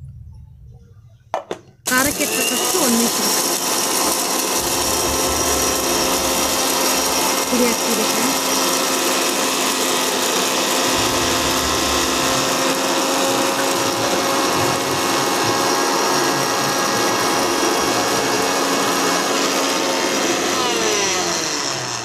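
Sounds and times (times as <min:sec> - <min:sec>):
mixer grinder grinding spices: 0:01.8 - 0:22.0.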